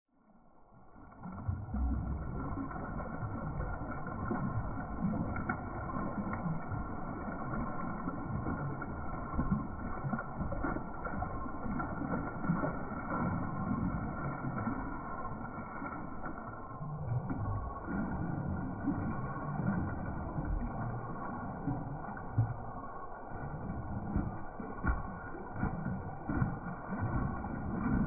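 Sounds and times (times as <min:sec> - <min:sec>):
water sloshing and splashing: 0:00.7 - 0:28.0.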